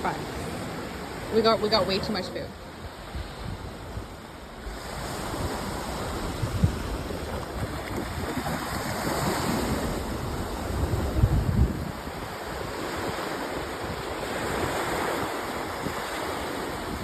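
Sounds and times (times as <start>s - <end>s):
surf rushing: 0.0s - 17.0s
wind buffeting microphone: 0.0s - 17.0s.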